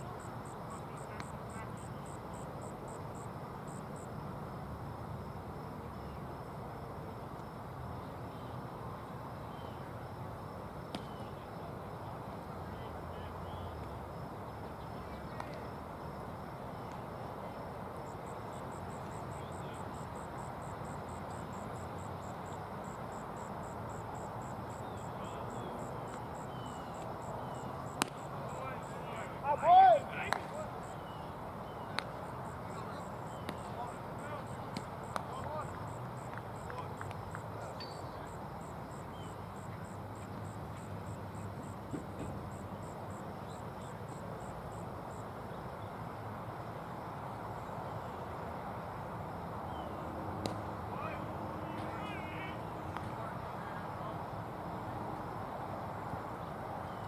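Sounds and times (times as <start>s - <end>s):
insects chirping: 0.0s - 57.0s
open air hiss: 0.0s - 57.0s.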